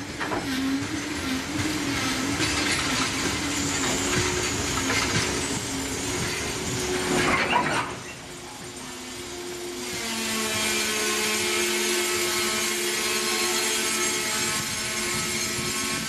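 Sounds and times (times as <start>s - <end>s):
freight wagons rumbling on rails: 0.0s - 16.0s.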